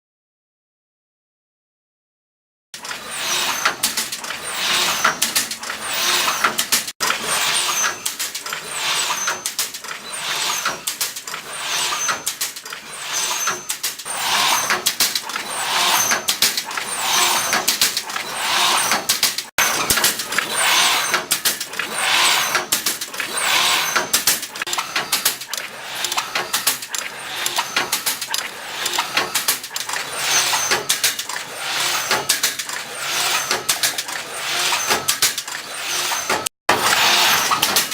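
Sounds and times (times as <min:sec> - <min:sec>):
welding machine strokes with clicks: 0:02.8 - 0:37.9.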